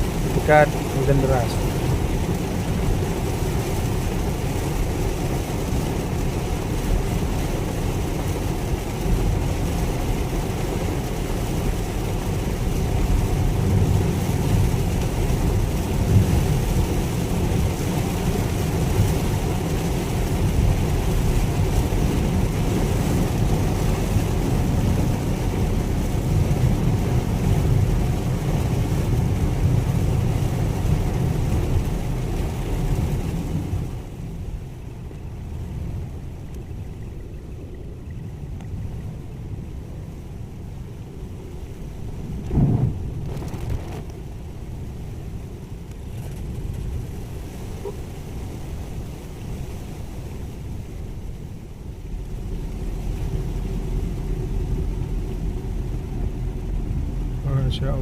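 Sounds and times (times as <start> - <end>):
road and drivetrain rumble: 0.0 - 51.0, 51.8 - 58.0
rain hissing on car: 0.0 - 58.0.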